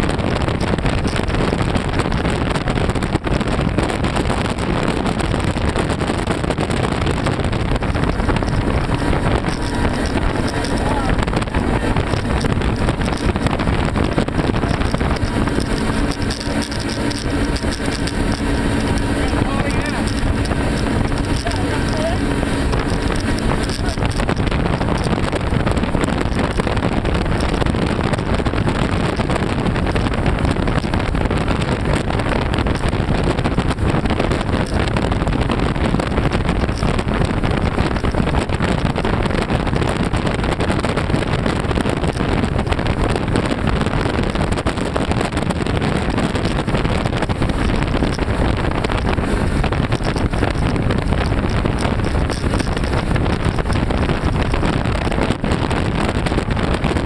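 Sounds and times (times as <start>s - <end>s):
outboard engines droning: 0.0s - 57.0s
wind buffeting microphone: 0.0s - 57.0s.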